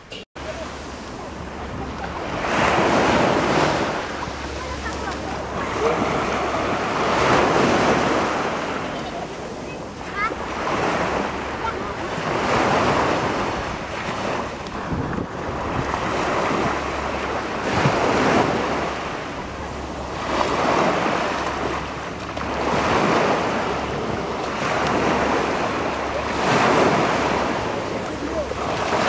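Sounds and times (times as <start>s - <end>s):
waves breaking on sandy beach: 0.4s - 29.0s
wind buffeting microphone: 0.4s - 29.0s.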